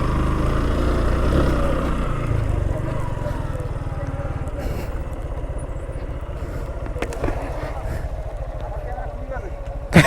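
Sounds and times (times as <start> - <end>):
motorcycle engine under load: 0.0 - 10.0.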